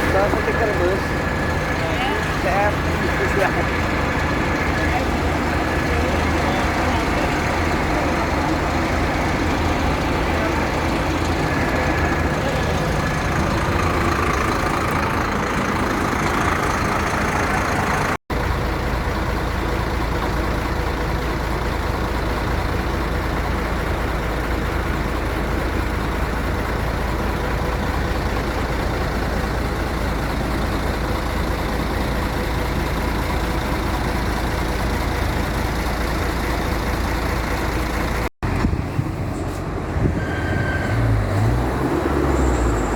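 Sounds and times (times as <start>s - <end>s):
bus engines running: 0.0s - 42.9s
heavy engine idling: 0.0s - 42.9s
traffic noise: 0.0s - 42.9s.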